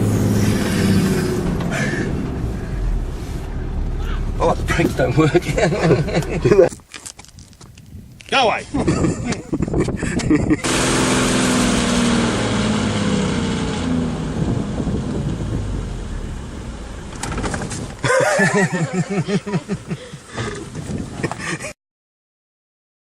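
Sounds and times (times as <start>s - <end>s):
vehicle engine rumbling: 0.0s - 21.8s.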